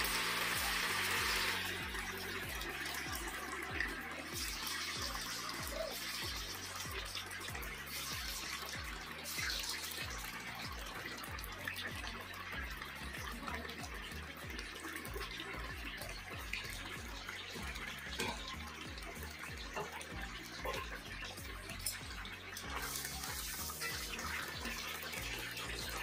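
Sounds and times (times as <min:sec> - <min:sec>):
chicken deep-frying in oil: 0:00.0 - 0:26.0.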